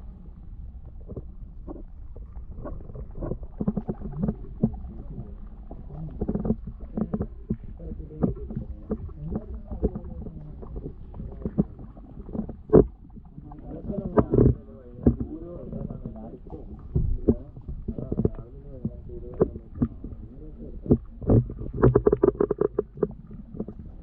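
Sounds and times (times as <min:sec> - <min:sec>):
muffled underwater rumble: 0:00.0 - 0:24.0
underwater knocks and clicks: 0:00.1 - 0:24.0.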